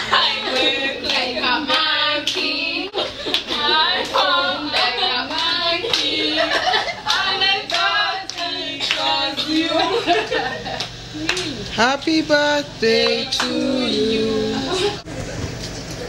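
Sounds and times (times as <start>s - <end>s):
group singing a chant: 0.0s - 10.4s, 11.8s - 15.0s
rhythmic hand clapping: 0.0s - 13.7s.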